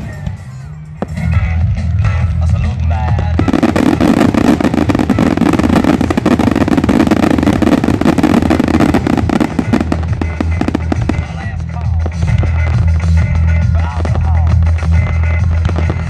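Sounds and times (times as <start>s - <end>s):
fireworks crackling: 2.1s - 16.0s
fireworks bursting: 3.1s - 16.0s.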